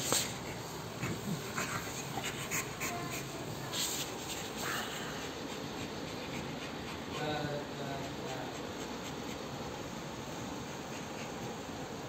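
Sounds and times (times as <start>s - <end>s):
dog panting hard: 0.0s - 9.8s, 10.6s - 11.8s.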